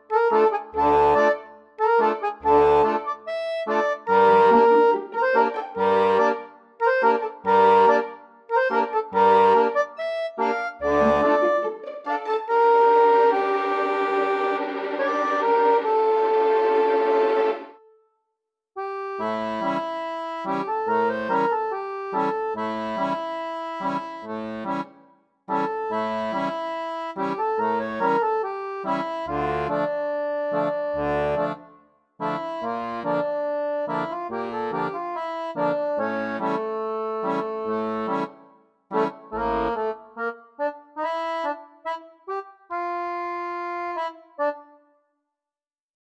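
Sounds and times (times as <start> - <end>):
accordion music: 0.0 - 18.0, 18.8 - 45.0.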